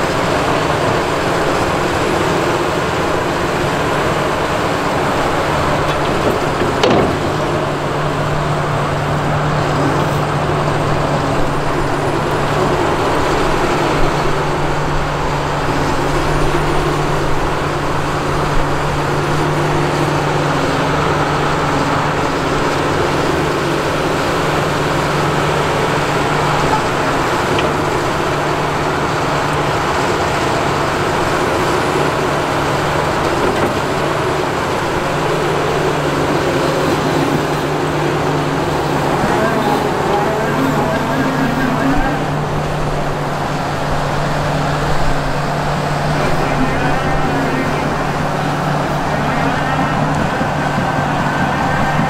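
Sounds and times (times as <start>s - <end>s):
excavator diesel engine droning: 0.0s - 52.0s.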